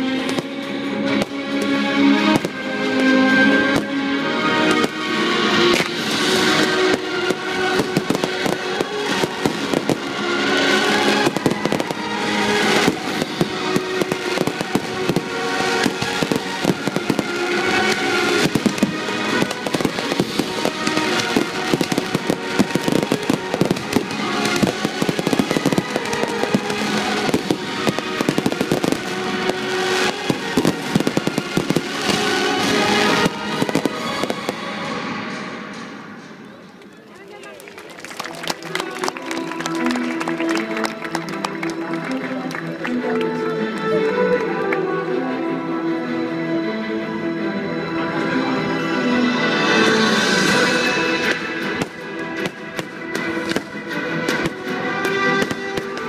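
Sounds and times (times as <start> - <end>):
fireworks bursting and crackling: 0.0 - 41.9, 49.3 - 56.0
music playing: 0.0 - 56.0.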